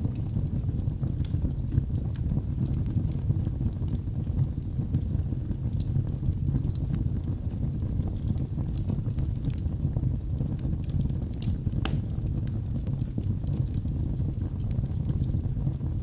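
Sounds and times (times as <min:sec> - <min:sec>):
wood fire burning and crackling: 0:00.0 - 0:16.0.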